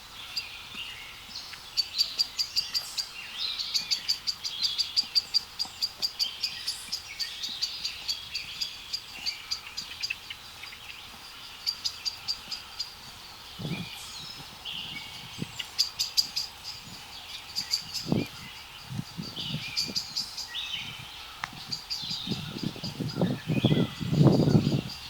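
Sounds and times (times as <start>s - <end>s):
other bird calls: 0.0s - 25.0s
songbirds chirping: 0.0s - 25.0s.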